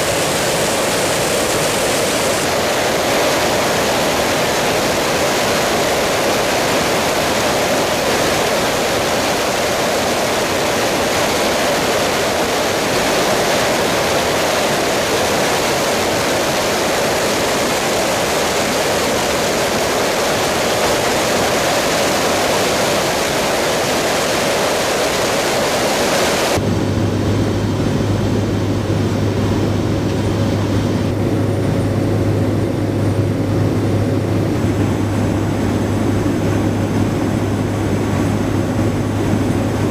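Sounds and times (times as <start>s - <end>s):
aircraft rushing noise: 0.0s - 39.9s
droning engine hum: 0.0s - 39.9s.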